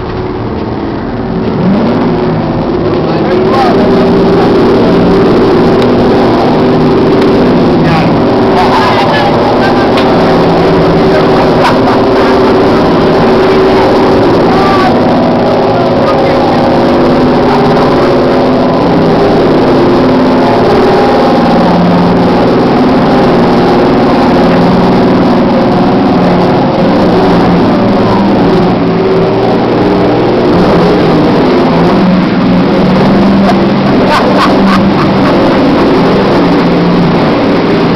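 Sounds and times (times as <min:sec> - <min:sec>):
boat engine droning: 0:00.0 - 0:37.9.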